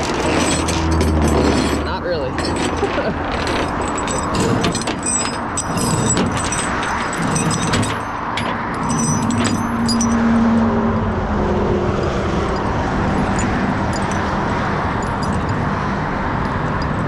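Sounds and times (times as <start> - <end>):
freeway traffic rushing: 0.0 - 17.0.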